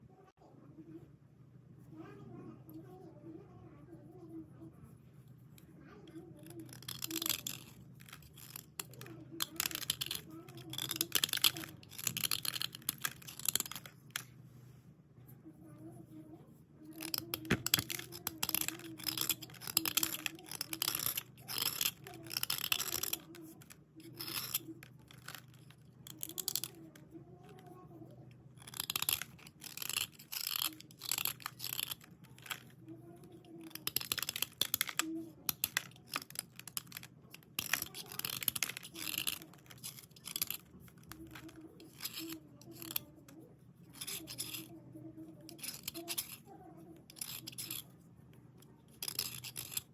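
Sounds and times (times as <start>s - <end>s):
gritty pencil scratching: 5.5s - 14.3s, 15.8s - 49.9s.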